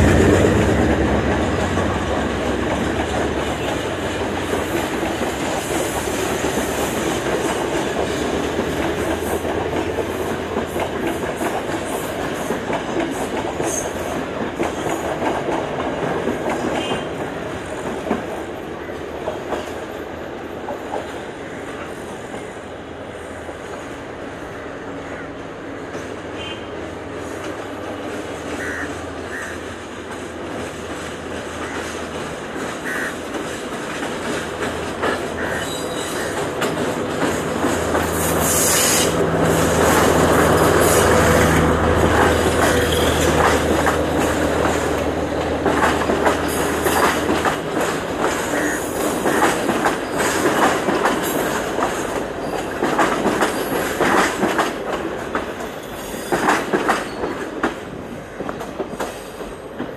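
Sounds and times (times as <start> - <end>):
train wheels clattering: 0.0 - 18.5, 30.0 - 59.9.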